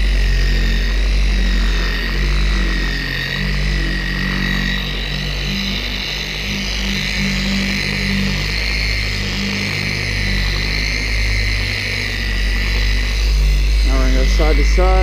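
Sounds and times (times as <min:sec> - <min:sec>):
electronic music with bass: 0:00.0 - 0:15.0
polisher whining: 0:00.0 - 0:15.0.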